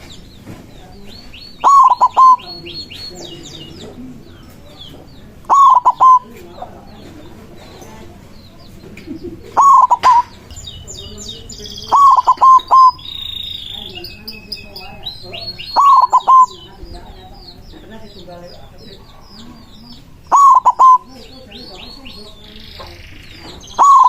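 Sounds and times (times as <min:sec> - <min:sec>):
small birds chirping: 0:00.0 - 0:24.0
dove cooing: 0:01.2 - 0:24.0.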